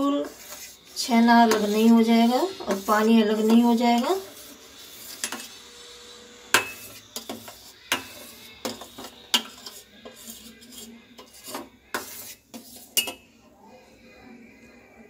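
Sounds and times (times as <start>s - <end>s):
spoon scraping metal pot: 0.0s - 13.3s.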